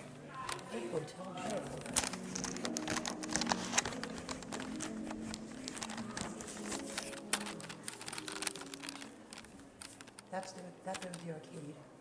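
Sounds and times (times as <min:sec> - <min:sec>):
faint background music: 0:00.0 - 0:12.0
camera and clothing rustling: 0:00.4 - 0:11.7.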